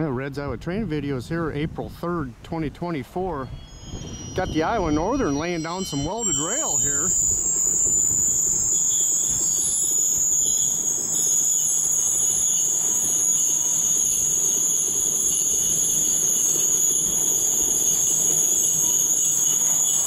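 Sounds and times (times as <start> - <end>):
train rumbling past: 3.3 - 20.0
high-pitched roller squeal: 3.4 - 20.0.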